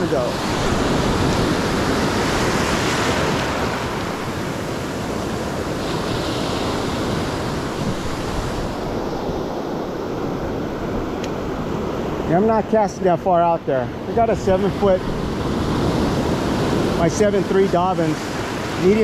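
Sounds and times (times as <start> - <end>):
wind on microphone: 0.0 - 12.8, 14.0 - 19.0
surf breaking and washing on sand: 0.0 - 19.0.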